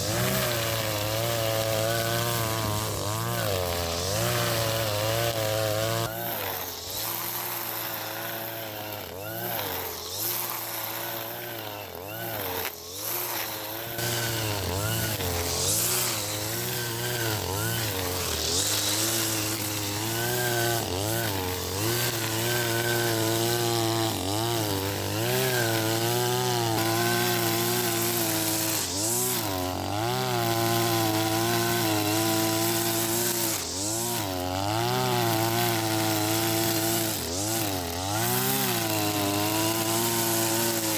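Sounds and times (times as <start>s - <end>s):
brush cutter cutting grass: 0.0s - 40.9s.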